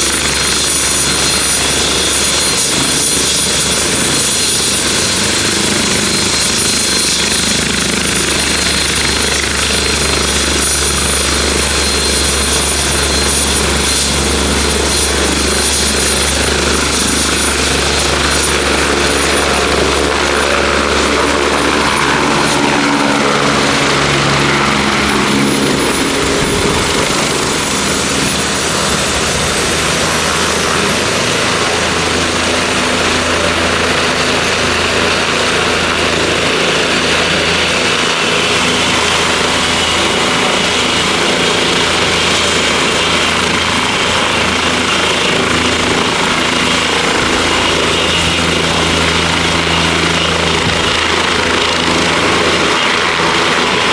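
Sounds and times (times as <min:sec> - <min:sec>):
helicopter rotor beat: 0:00.0 - 0:53.9
high turbine whine: 0:00.0 - 0:53.9.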